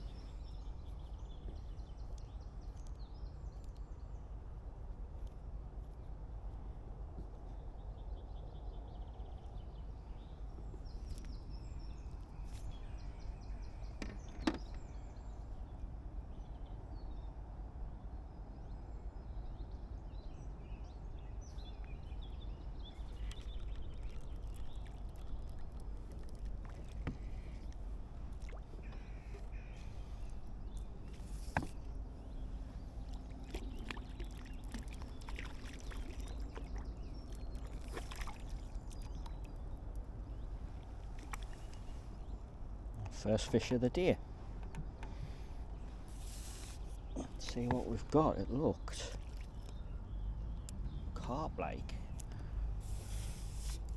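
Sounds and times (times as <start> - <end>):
faint birdsong: 0.0 - 53.9.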